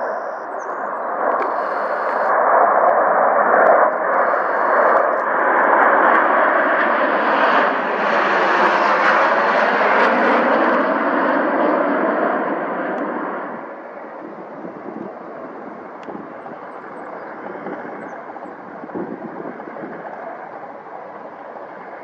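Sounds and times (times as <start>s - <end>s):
plane engine passing close: 0.0s - 22.0s.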